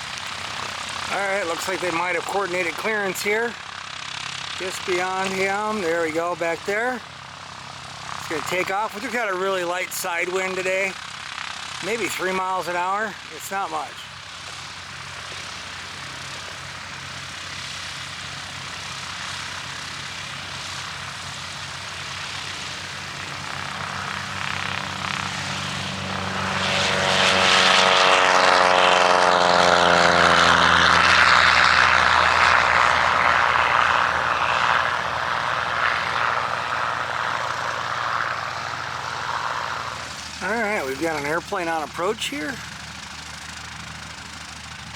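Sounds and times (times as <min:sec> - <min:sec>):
propeller airplane taking off: 0:00.0 - 0:44.9.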